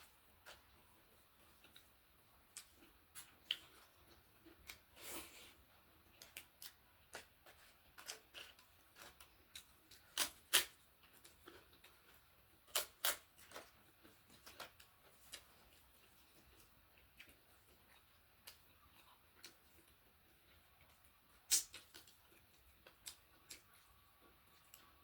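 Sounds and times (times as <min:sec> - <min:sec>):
wet chewing clicks and smacks: 0:01.4 - 0:04.9, 0:06.0 - 0:25.0.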